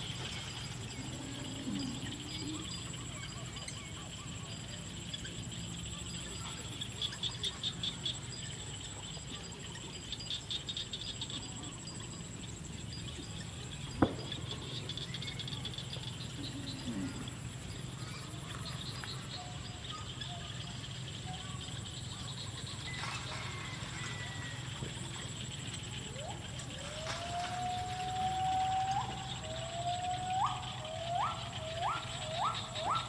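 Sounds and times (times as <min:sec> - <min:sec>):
insects buzzing: 0:00.0 - 0:33.0
rapid pulsed insect chirping: 0:00.0 - 0:33.0.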